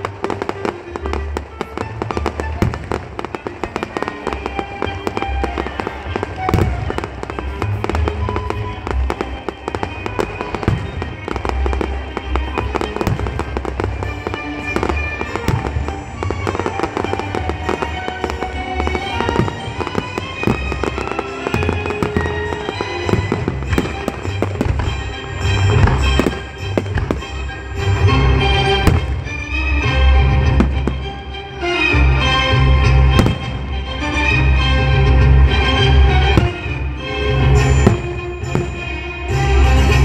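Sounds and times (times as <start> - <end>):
fireworks bangs and crackling: 0.0 - 40.0
music: 0.0 - 40.0.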